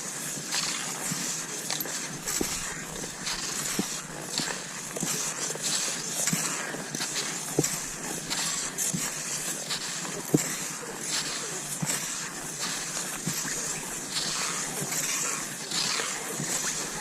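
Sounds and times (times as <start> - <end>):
skis swishing over snow: 0.0 - 17.0.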